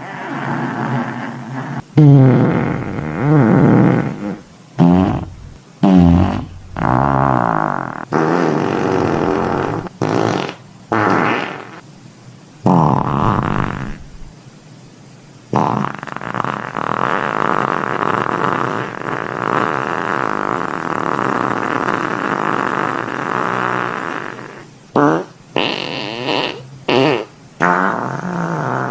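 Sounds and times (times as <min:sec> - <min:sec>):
fart sound effects: 0:00.0 - 0:11.8, 0:12.6 - 0:14.3, 0:15.5 - 0:28.9.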